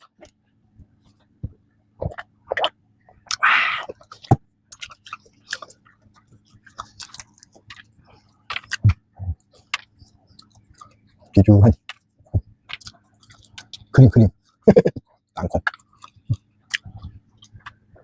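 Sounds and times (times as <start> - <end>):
person chewing bread: 0.0 - 18.0.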